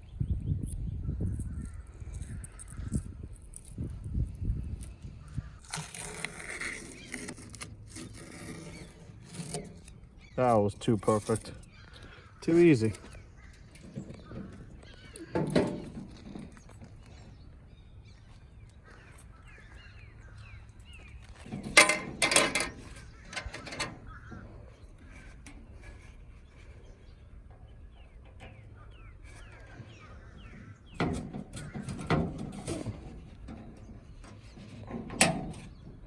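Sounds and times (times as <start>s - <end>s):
faint birds chirping: 0.0s - 36.0s.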